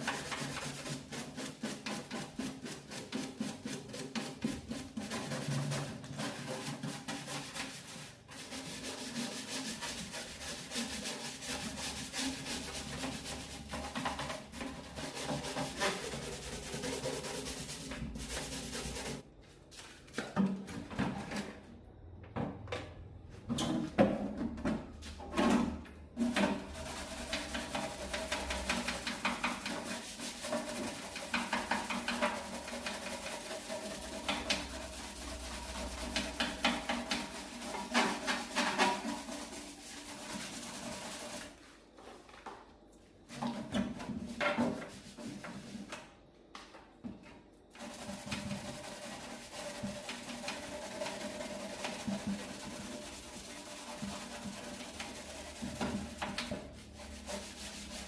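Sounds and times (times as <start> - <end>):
rubbing or scrubbing: 0.0 - 20.2, 25.1 - 42.3, 43.3 - 46.0, 47.7 - 58.0
scrapes and quick strokes: 0.0 - 20.4, 25.0 - 42.4, 43.3 - 46.1, 47.3 - 58.0.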